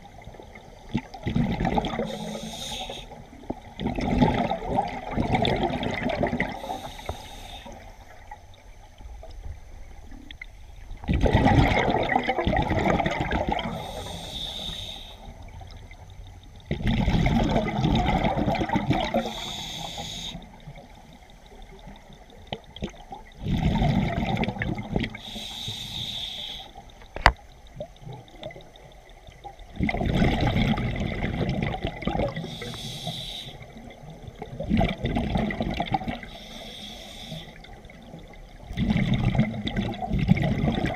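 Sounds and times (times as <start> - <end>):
exhaled bubbles underwater: 0.0 - 40.9.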